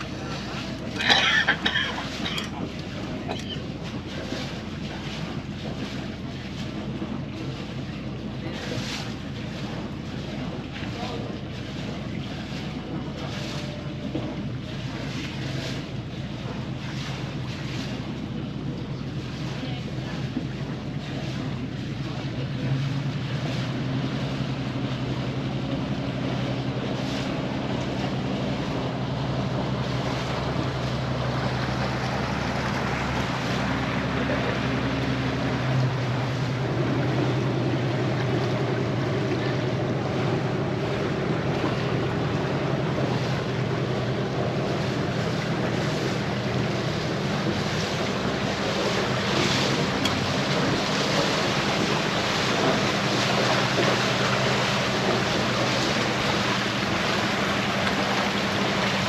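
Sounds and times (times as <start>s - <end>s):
boat engine running: 0.0s - 59.0s
water rushing along hull: 0.0s - 59.0s.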